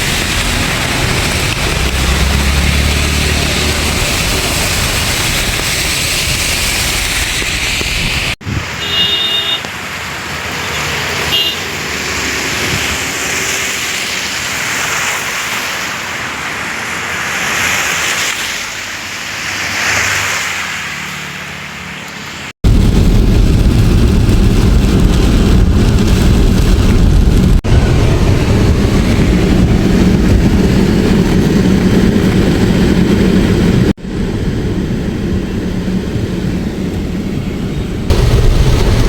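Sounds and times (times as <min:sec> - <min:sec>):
heavy rain: 0:00.0 - 0:34.0, 0:38.0 - 0:39.0
cars passing in rain: 0:00.0 - 0:39.0.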